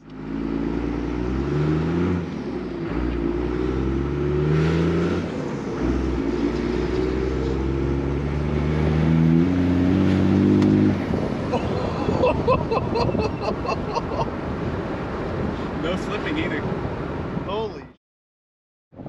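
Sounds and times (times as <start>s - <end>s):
diesel engine at full throttle: 0.0s - 16.0s.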